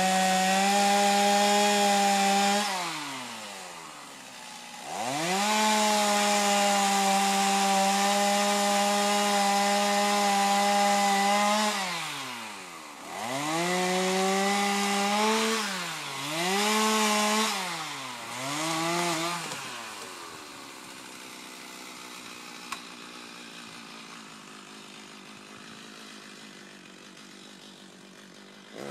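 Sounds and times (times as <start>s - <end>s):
chainsaw engine revving: 0.0s - 28.9s.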